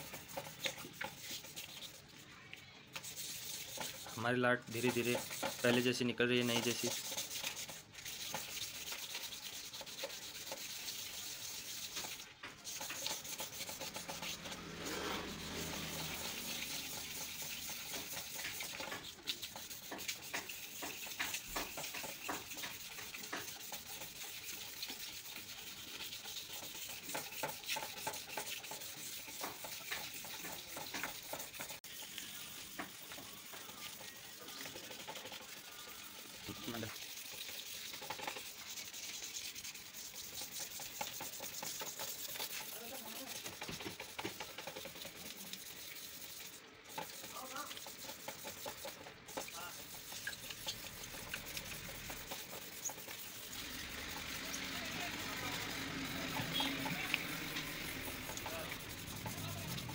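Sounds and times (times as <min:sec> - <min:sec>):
sandpaper rubbing on wet plastic: 0:00.0 - 0:02.3, 0:02.9 - 0:59.9.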